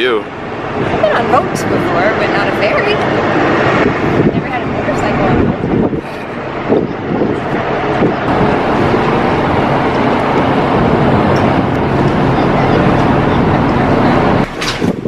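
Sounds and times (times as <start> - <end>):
ferry engines droning: 0.0 - 15.0.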